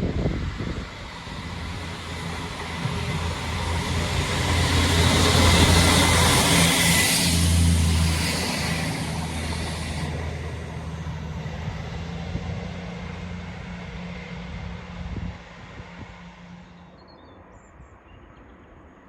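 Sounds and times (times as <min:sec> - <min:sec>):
train wheel noise: 0:00.0 - 0:16.6
diesel train engine drone: 0:00.0 - 0:18.9.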